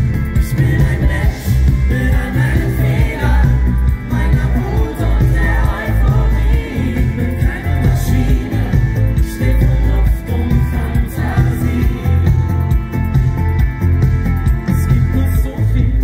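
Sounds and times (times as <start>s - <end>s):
man singing lead: 0.0s - 13.1s, 14.6s - 16.0s
live pop band over pa: 0.0s - 16.0s.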